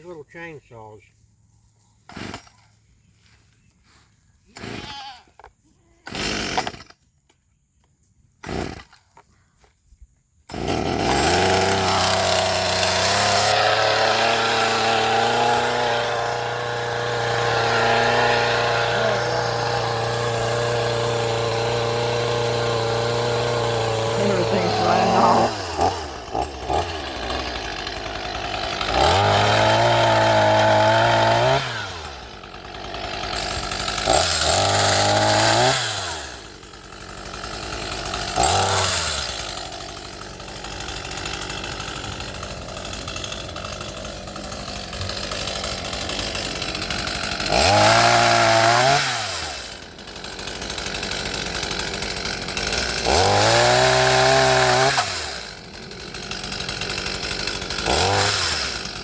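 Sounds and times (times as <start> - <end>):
chainsaw revving and idling: 2.1 - 5.0, 6.0 - 7.0, 8.4 - 9.2, 10.5 - 59.0.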